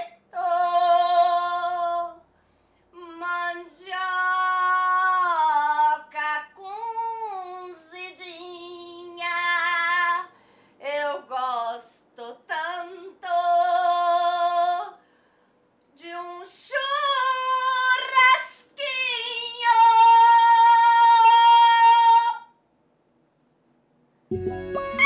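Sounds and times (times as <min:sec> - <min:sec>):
woman singing operatically: 0:00.0 - 0:02.2, 0:03.0 - 0:15.0, 0:16.0 - 0:22.5.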